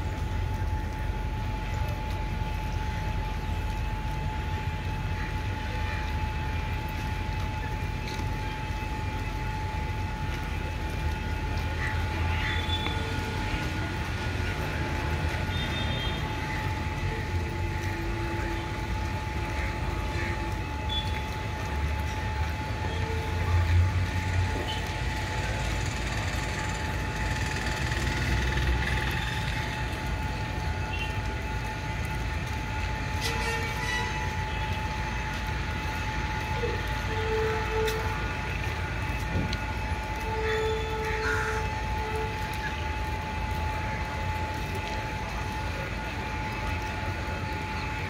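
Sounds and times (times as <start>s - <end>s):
train engine idling: 0.0s - 48.0s.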